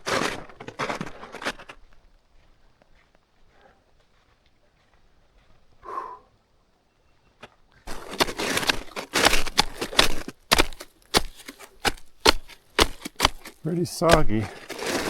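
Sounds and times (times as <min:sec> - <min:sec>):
footsteps crunching in wet snow: 0:00.0 - 0:05.8, 0:07.8 - 0:15.0.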